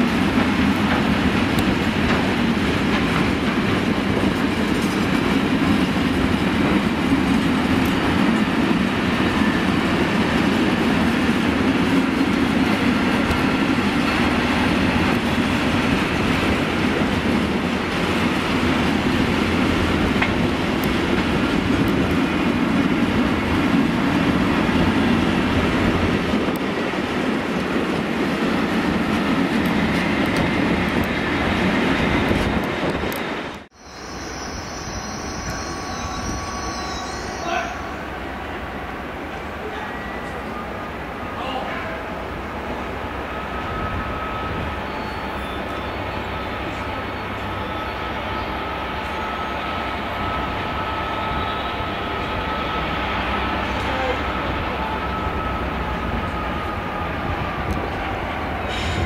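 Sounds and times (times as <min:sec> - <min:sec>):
distant rail sound: 0:00.0 - 0:59.0
freight train rolling past: 0:00.0 - 0:59.0.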